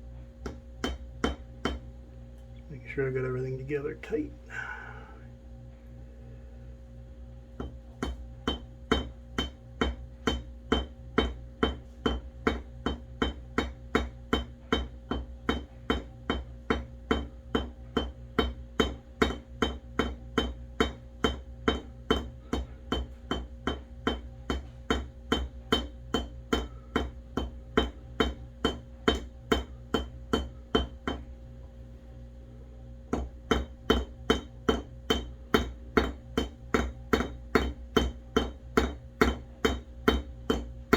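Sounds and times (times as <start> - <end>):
small hammer tapping on anvil: 0.4 - 1.9, 7.6 - 31.4, 33.1 - 40.9.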